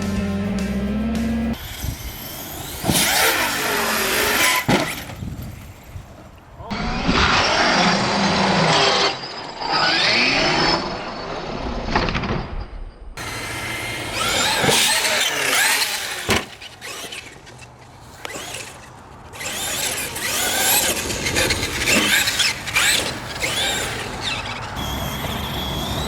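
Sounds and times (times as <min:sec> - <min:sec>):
gritty tyre noise: 0:00.0 - 0:12.6, 0:13.2 - 0:26.0
rc car motor revving: 0:00.1 - 0:05.2, 0:06.7 - 0:11.2, 0:13.2 - 0:26.0.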